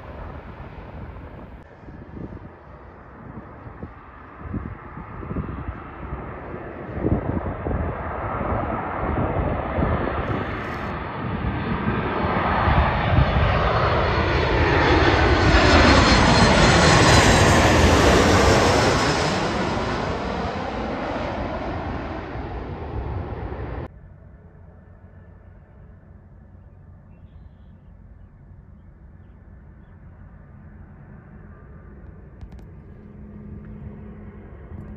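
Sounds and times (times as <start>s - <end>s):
jet airliner passing overhead: 0.0s - 34.9s
jet engine whine: 0.0s - 34.9s.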